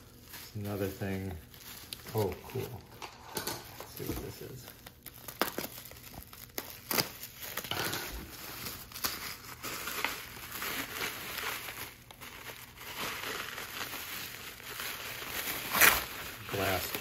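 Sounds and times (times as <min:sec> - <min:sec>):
packaging crinkling and tearing: 0:00.0 - 0:17.0.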